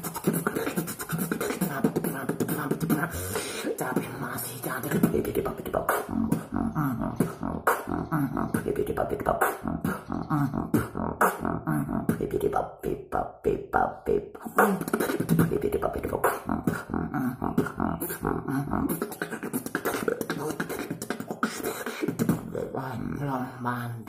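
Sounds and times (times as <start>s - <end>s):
man beatboxing: 0.0s - 24.0s.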